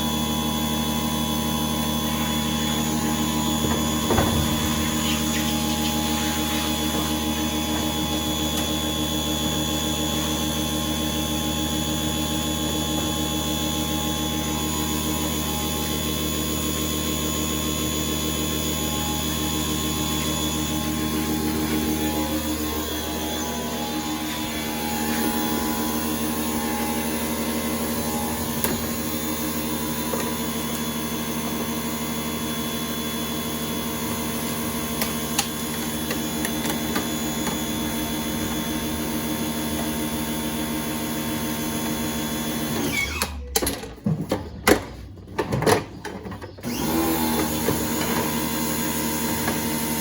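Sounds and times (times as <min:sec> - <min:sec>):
electric motor humming: 0:00.0 - 0:43.2.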